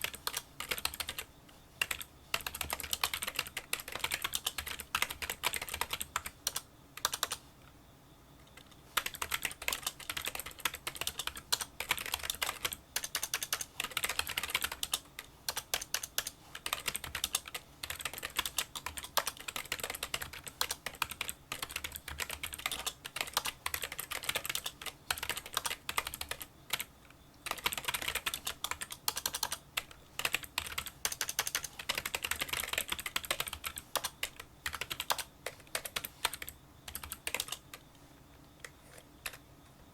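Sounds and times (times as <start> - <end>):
keyboard typing clicks: 0.0 - 7.4, 8.5 - 37.8.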